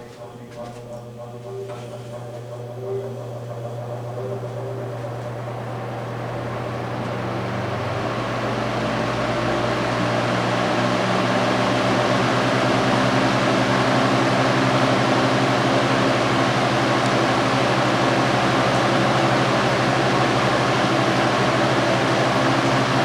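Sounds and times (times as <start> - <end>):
box fan running: 0.0 - 23.0.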